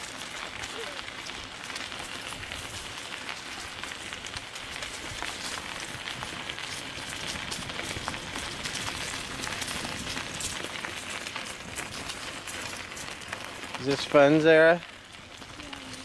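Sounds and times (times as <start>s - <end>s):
bicycle tyres on leafy dirt path: 0.0s - 16.0s.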